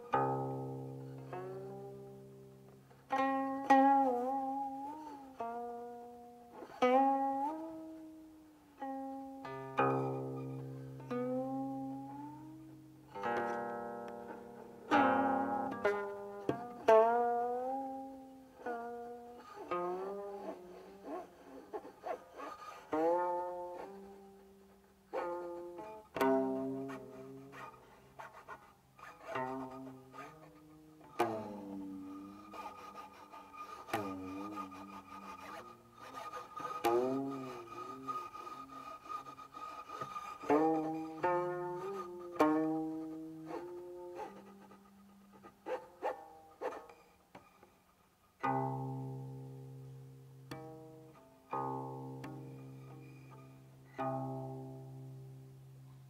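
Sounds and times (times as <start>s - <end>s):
plucked zither notes: 0.0s - 47.7s, 48.4s - 56.0s.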